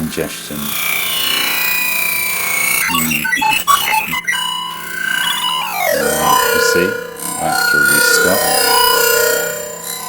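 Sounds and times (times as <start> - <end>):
hissing droning electronic texture: 0.0 - 10.0
choppy stuttering fragments: 0.5 - 10.0
sustained high tone: 0.6 - 10.0.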